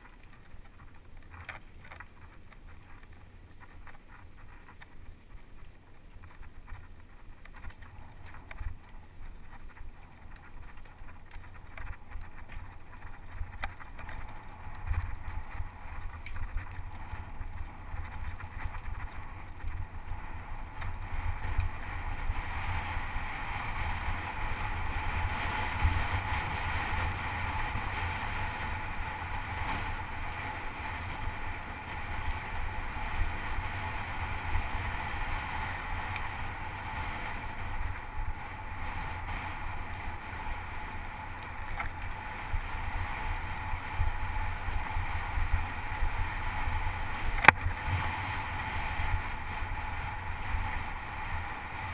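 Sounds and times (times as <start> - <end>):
bike tyres rumbling on gravel: 0.0 - 51.9.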